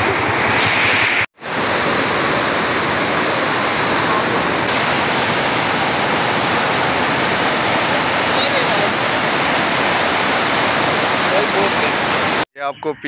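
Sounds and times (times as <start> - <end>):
floodwater rushing through canal: 0.0 - 12.4.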